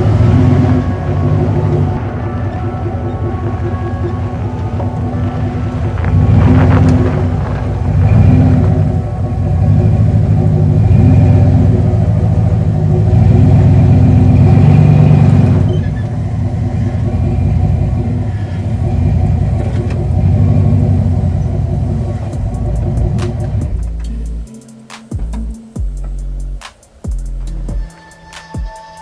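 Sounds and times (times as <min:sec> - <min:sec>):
pickup truck engine revving: 0:00.0 - 0:27.9.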